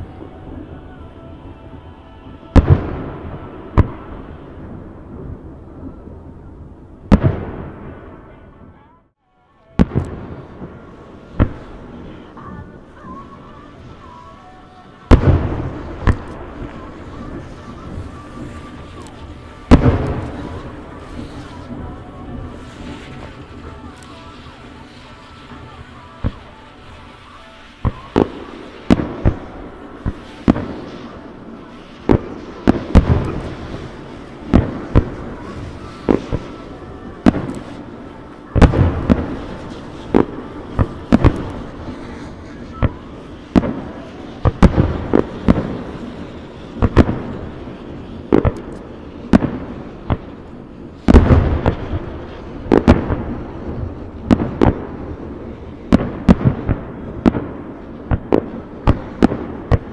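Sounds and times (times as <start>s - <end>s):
fireworks bursting with sharp bangs: 0.0s - 59.9s
fireworks crackling: 0.0s - 59.9s.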